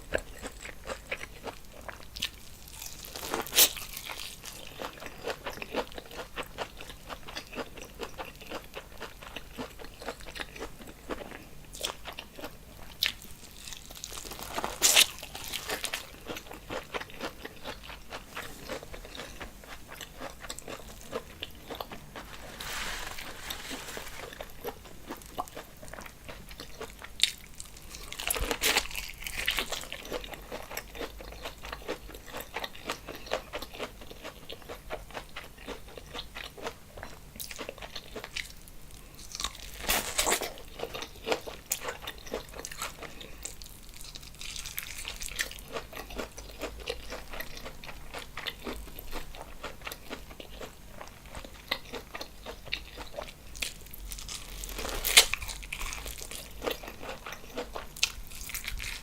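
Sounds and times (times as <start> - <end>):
close chewing and mouth sounds: 0.0 - 59.0.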